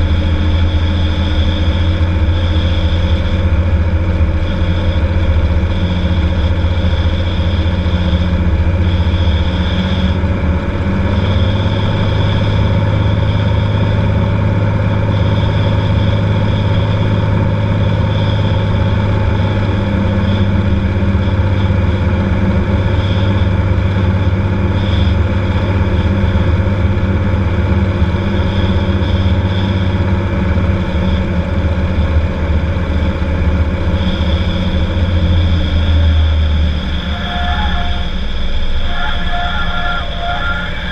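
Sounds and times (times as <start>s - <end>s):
propeller engine droning: 0.0s - 40.9s.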